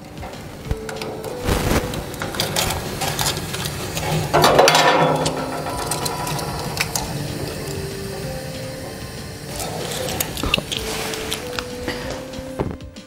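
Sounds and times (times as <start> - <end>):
hand tools clicking and rattling: 0.0 - 12.3.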